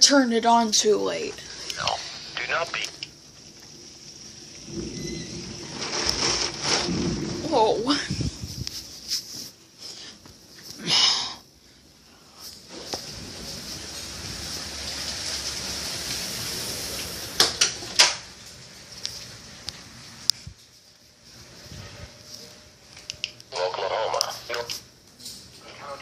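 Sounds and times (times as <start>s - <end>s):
rain: 0.0s - 26.0s
wind: 0.7s - 25.9s.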